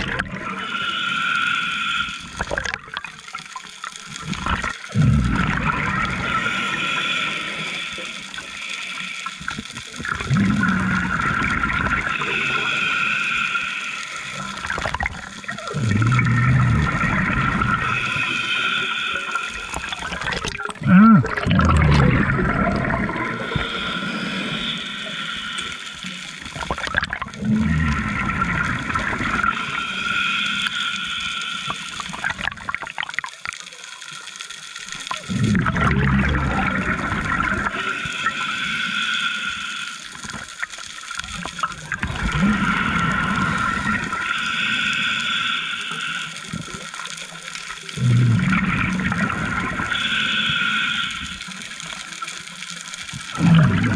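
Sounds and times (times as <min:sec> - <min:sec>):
exhaled bubbles: 0:00.0 - 0:33.6, 0:34.8 - 0:53.9
hissing regulator inhale: 0:00.4 - 0:02.6, 0:05.0 - 0:20.2, 0:21.7 - 0:26.9, 0:27.6 - 0:32.4, 0:36.0 - 0:40.7, 0:42.2 - 0:53.9.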